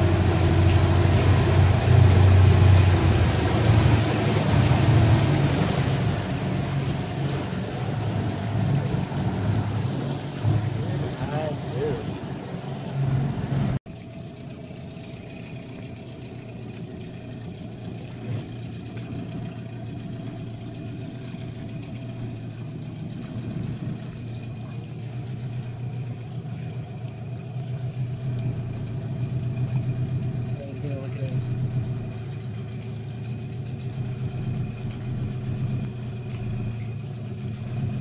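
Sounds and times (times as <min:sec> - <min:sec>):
outboard motor idling: 0:00.0 - 0:38.0.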